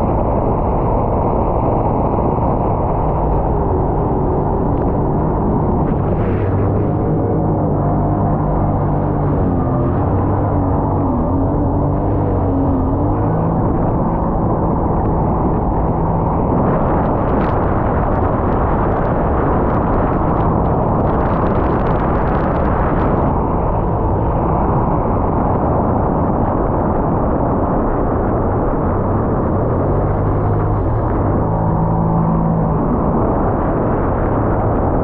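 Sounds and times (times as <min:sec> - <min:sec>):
jet ski engine: 0:00.0 - 0:35.0
water noise: 0:00.0 - 0:35.0
wind rumble on camera: 0:00.0 - 0:35.0.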